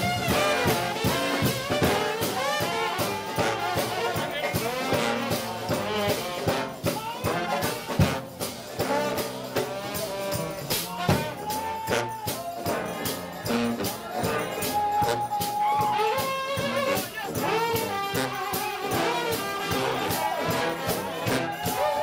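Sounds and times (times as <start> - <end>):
brass band playing: 0.0 - 22.0.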